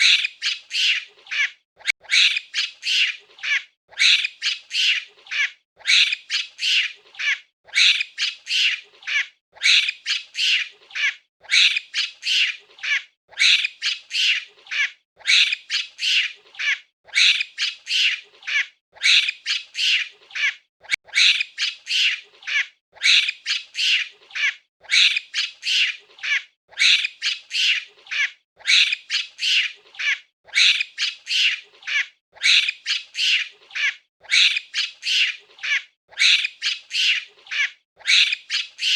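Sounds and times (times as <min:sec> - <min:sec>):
monkeys screeching: 0:00.0 - 0:38.9.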